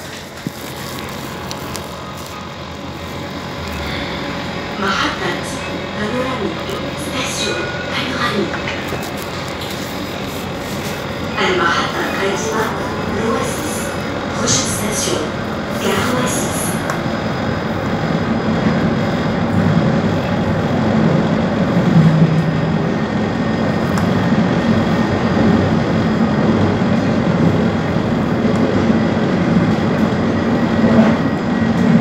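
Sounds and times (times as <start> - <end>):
tram running rumble and hum: 0.0 - 32.0.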